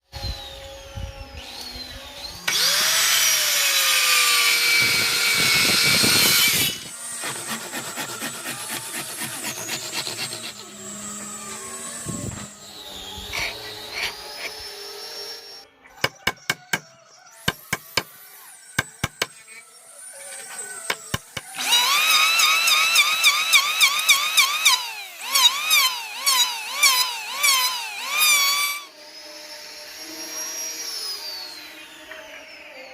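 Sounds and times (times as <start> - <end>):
power tool whining carving wood: 0.1 - 32.9.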